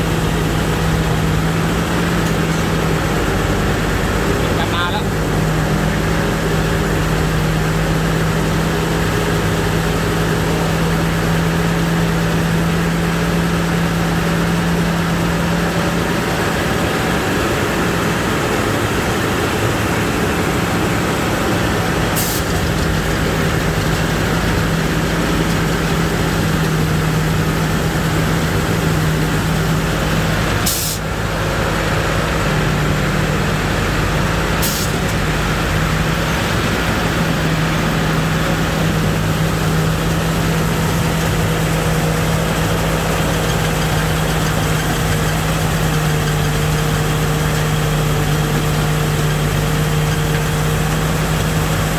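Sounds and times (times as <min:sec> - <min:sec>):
combine harvester engine drone: 0:00.0 - 0:51.9.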